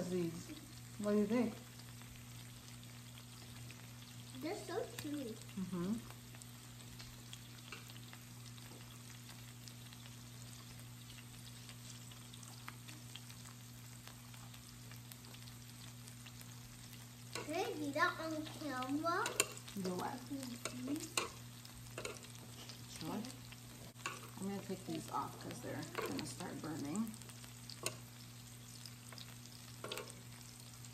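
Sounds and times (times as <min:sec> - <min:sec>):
low steady hum: 0:00.0 - 0:30.9
meat sizzling on grill plate: 0:00.0 - 0:30.9.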